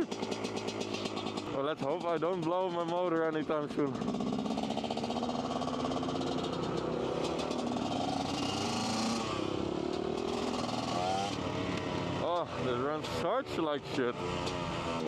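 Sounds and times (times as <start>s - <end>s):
dirt bike engine running: 0.0s - 13.4s.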